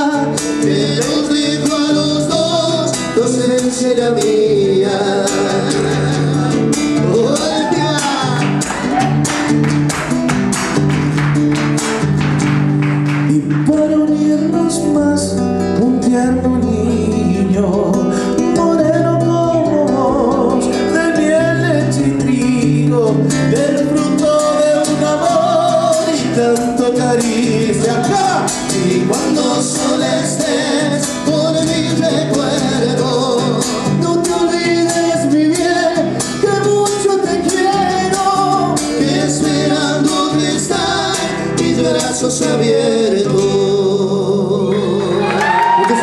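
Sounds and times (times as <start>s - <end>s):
men singing together: 0.0s - 9.2s, 15.8s - 46.0s
strummed acoustic guitar: 0.0s - 45.4s.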